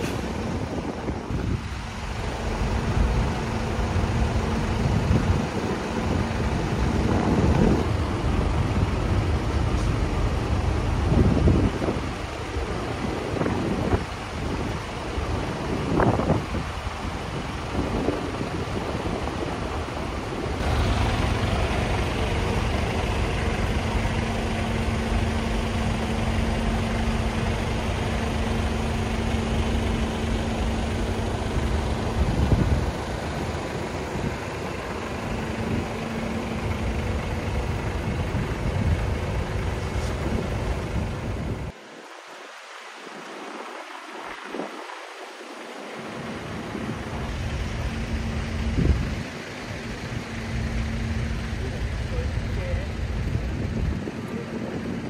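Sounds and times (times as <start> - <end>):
diesel engine idling: 0.0 - 41.8, 45.6 - 55.0.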